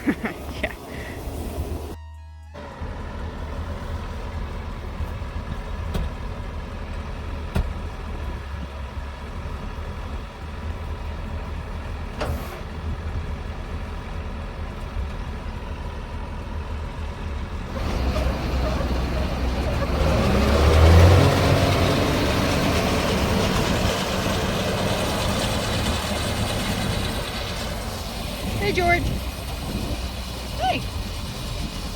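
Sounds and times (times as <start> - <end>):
vehicle engine rumbling: 0.0 - 31.9.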